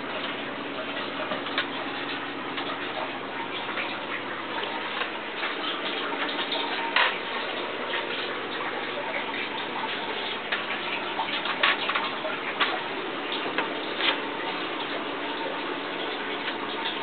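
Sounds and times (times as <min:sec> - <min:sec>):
sharp ticks and drips: 0:00.0 - 0:17.0
water trickling and splashing: 0:00.0 - 0:17.0.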